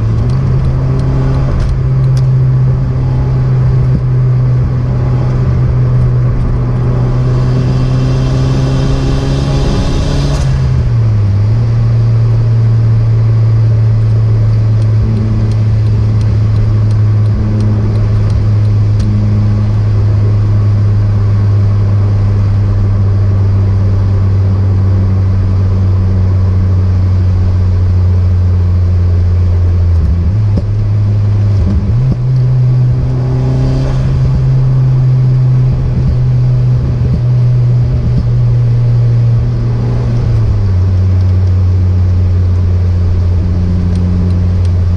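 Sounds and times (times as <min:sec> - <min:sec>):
car engine droning: 0:00.0 - 0:44.9
road noise: 0:00.0 - 0:44.9.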